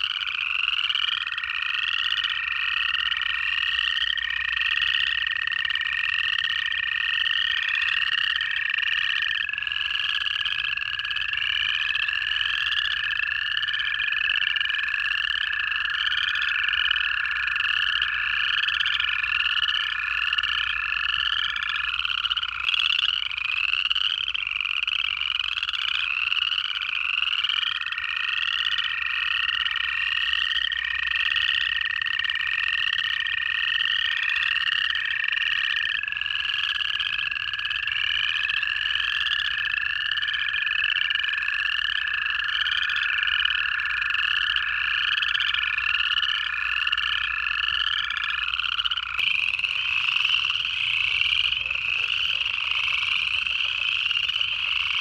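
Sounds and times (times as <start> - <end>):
chorus frogs trilling: 0.0 - 55.0
toads trilling: 0.0 - 55.0.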